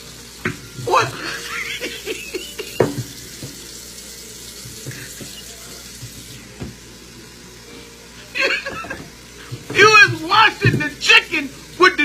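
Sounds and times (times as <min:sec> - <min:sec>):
tap water running into sink: 0:00.0 - 0:07.6, 0:08.3 - 0:12.0.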